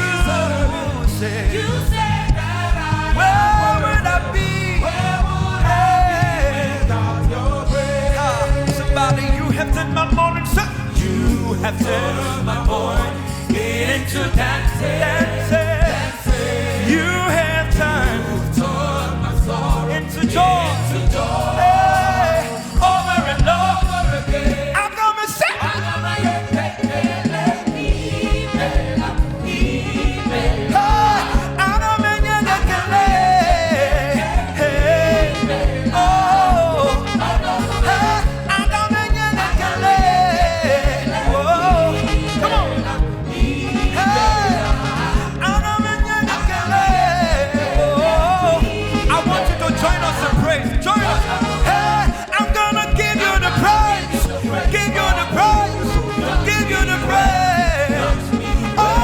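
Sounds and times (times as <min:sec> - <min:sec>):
church band playing upbeat song: 0:00.0 - 0:59.0
people singing: 0:00.0 - 0:59.0.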